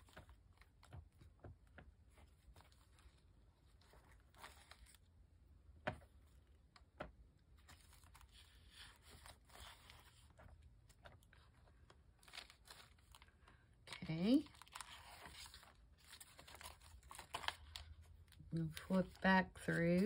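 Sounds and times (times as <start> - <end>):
paper rustling and crinkling: 0.0 - 5.1, 7.5 - 20.0.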